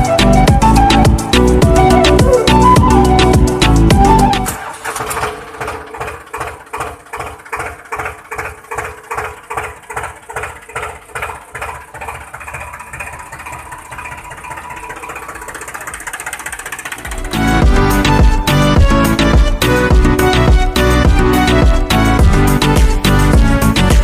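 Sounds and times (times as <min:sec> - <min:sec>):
small diesel engine chugging: 0:00.0 - 0:24.0.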